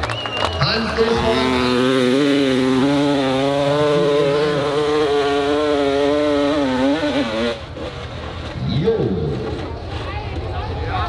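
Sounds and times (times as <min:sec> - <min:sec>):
dirt bike engine at high revs: 0:00.6 - 0:09.6.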